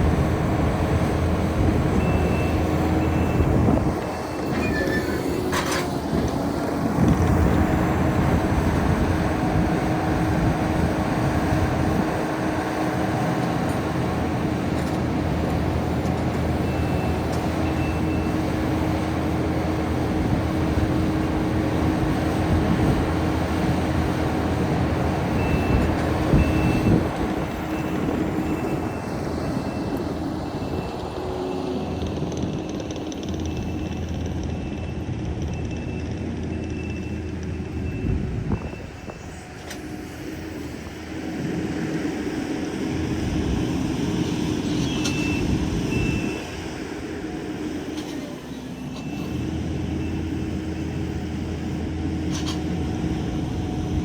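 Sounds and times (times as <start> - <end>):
heavy diesel equipment running: 0.0 - 54.0.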